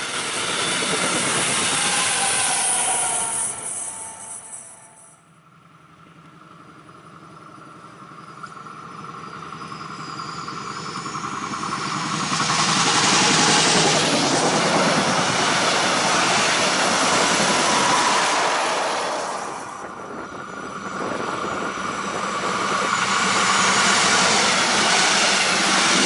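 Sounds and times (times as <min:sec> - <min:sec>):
thin steady whine: 0:00.0 - 0:26.0
train wheels on rails rumbling: 0:00.0 - 0:26.0.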